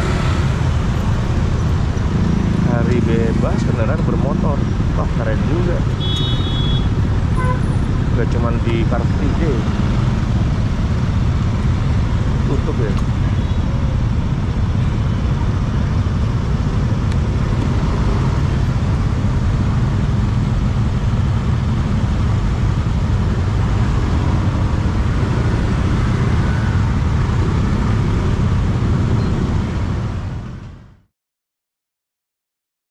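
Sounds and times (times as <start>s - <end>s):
traffic rumble from a scooter: 0.0s - 31.1s.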